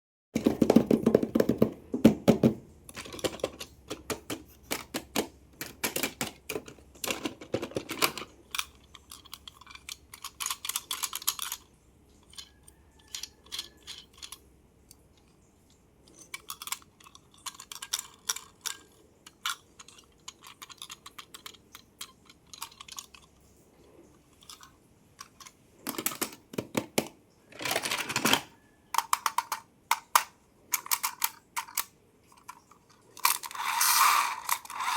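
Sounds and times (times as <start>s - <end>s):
tapping and clicking toy cars: 0.4s - 14.4s, 16.1s - 23.3s, 24.4s - 34.9s.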